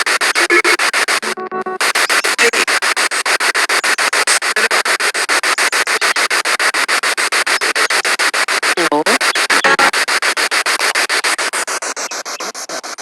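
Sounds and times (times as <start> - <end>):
radio static chopping: 0.0 - 13.0.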